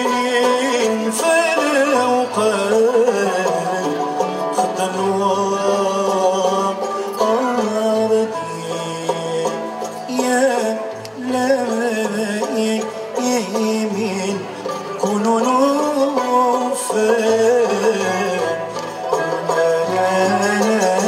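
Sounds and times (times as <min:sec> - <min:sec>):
oud qanun and violins playing: 0:00.0 - 0:21.0.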